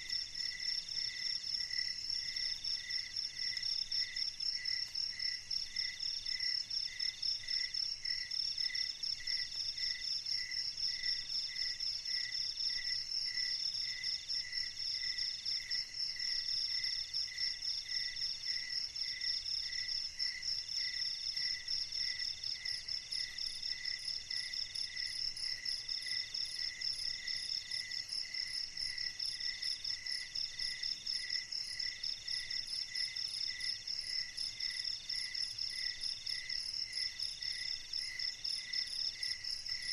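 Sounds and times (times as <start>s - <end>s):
lower cricket chirp: 0.0s - 39.9s.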